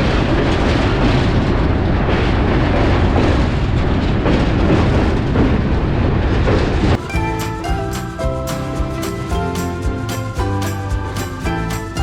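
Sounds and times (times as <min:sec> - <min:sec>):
moving train rumble: 0:00.9 - 0:12.0.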